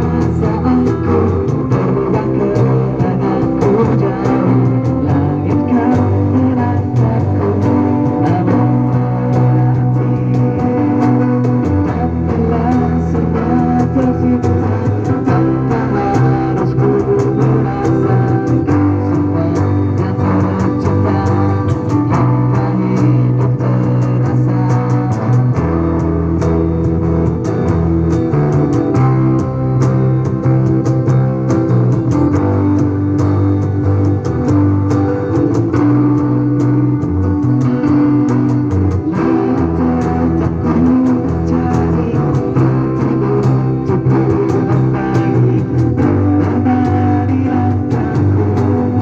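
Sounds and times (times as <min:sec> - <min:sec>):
rock band music over sound system: 0:00.0 - 0:49.0.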